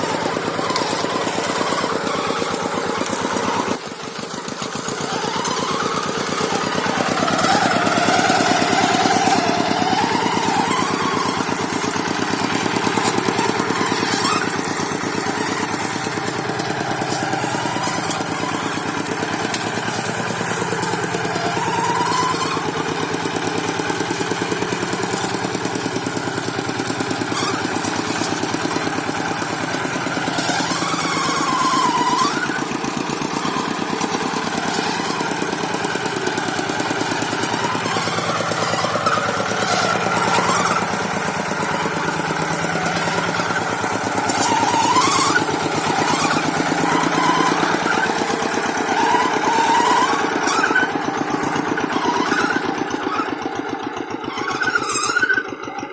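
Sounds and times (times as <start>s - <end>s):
tractor engine pulsing: 0.0s - 55.9s.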